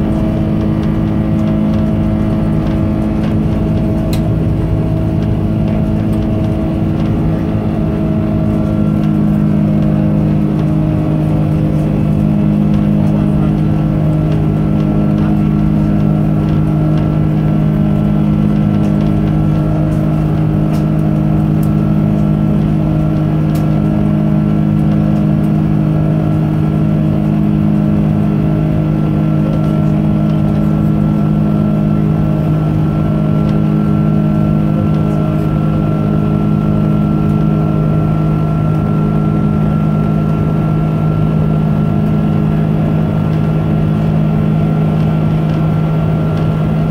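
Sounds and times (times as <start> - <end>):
jet engine drone in cabin: 0.0 - 46.9.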